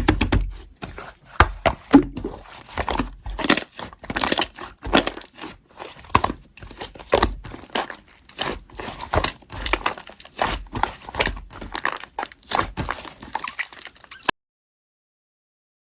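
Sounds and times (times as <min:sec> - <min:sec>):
slime squishing by hand: 0:00.0 - 0:14.3.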